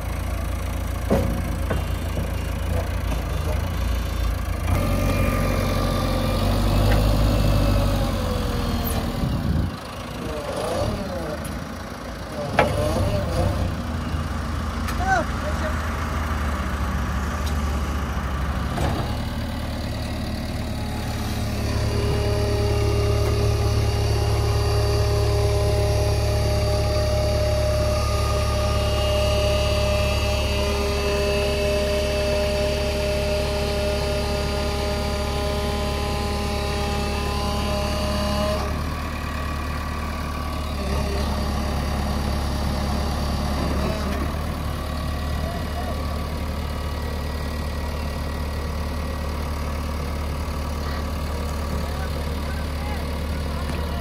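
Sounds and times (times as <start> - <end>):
backhoe diesel engine running: 0.0 - 54.0
engine whine: 0.0 - 54.0.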